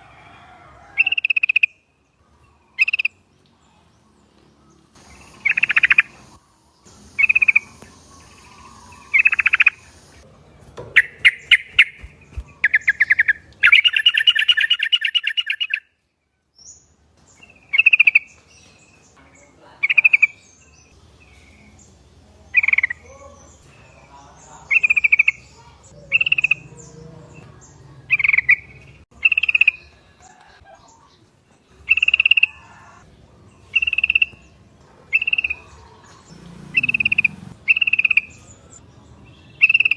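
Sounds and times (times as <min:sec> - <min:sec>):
bird calls: 0:00.3 - 0:16.0, 0:16.6 - 0:39.9.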